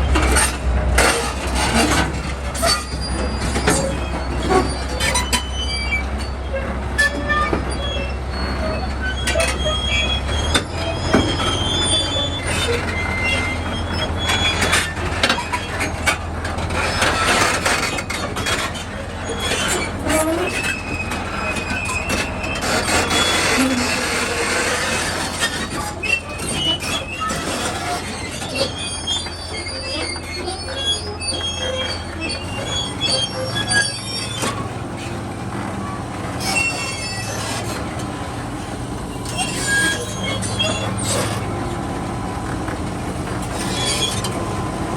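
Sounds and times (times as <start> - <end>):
crawler tracks clanking and squealing: 0.0 - 44.9
diesel engine hum: 0.0 - 44.9.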